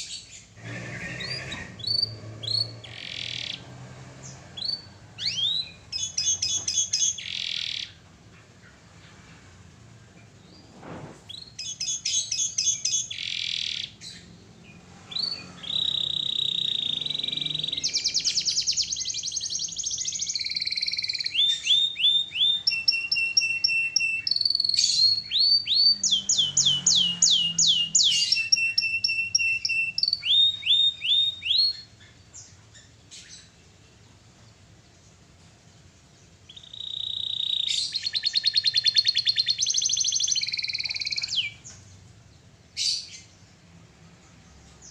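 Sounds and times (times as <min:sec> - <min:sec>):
canary singing trills: 0:00.0 - 0:09.3, 0:11.3 - 0:43.8.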